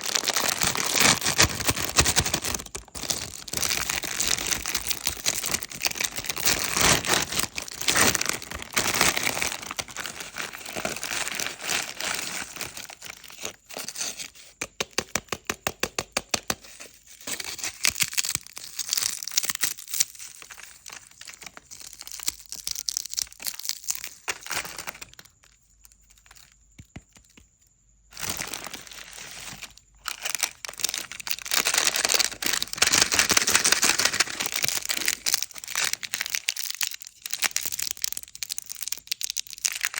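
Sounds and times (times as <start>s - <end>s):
snack wrappers crinkling: 0.0s - 14.3s, 17.4s - 27.4s, 28.1s - 39.9s.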